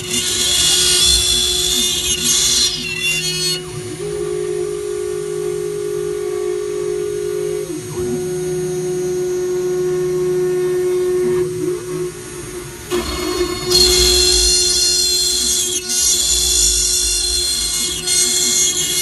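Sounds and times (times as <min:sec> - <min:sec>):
router spindle whine: 0:00.0 - 0:19.0.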